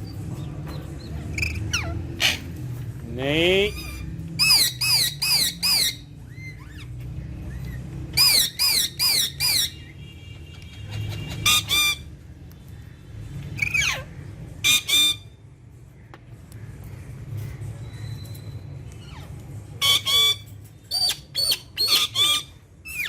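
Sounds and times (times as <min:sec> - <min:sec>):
parakeets screeching: 0:00.0 - 0:15.6, 0:16.6 - 0:23.0.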